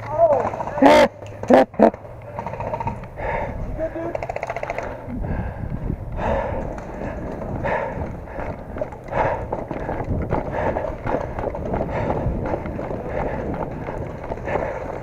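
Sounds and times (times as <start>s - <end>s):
gear jostling: 0.0s - 15.0s
footsteps running on rough ground: 2.2s - 15.0s.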